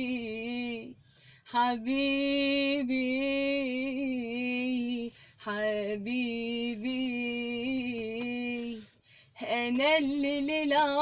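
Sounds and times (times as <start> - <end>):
woman singing unaccompanied: 0.0 - 0.9, 1.5 - 11.0.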